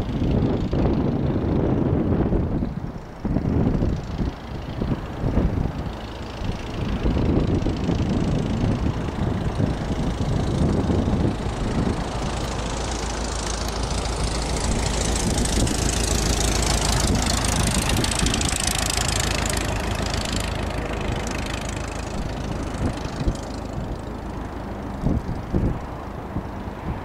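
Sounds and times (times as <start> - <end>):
rushing engine noise: 0.0 - 27.0
wind buffeting microphone: 0.0 - 27.0.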